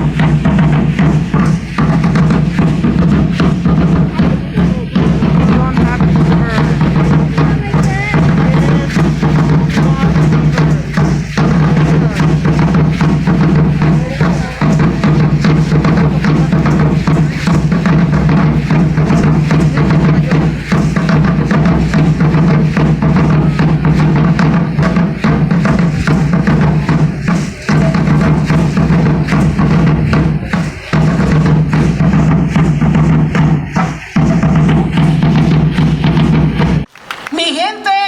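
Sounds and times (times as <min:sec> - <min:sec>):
large drums beating: 0:00.0 - 0:36.9.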